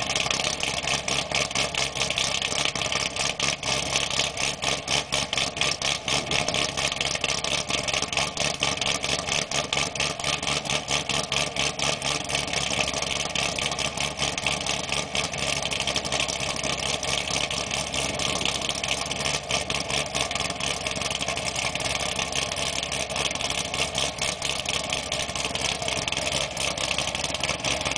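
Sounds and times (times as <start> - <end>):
car engine idling with choppy pulse: 0.0 - 27.9.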